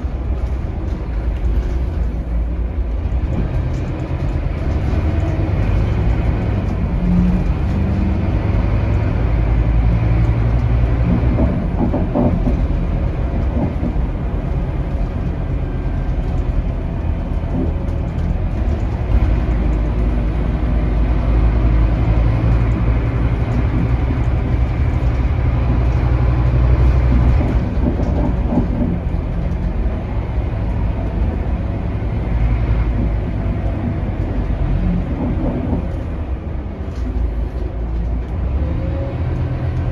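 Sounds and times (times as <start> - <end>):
bus diesel engine drone: 0.0 - 39.9
road and body rumble: 0.0 - 39.9.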